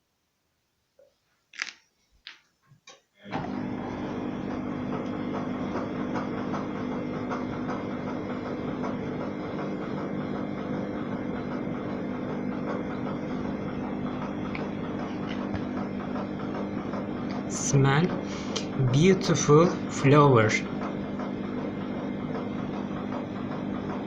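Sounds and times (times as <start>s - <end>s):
machine hum: 3.2s - 24.0s.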